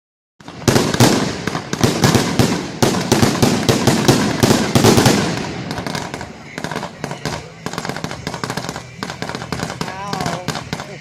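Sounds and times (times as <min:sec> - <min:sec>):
fireworks banging and crackling: 0:00.4 - 0:11.0.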